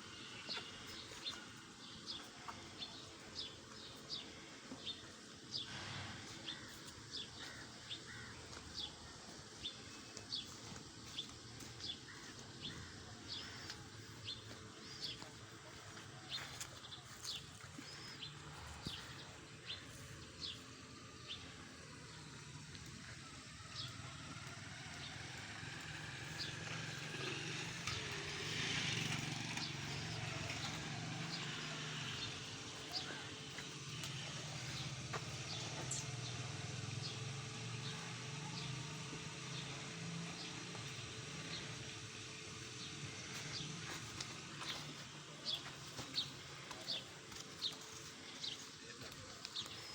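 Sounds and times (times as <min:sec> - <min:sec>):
small birds chirping: 0:00.1 - 0:49.9.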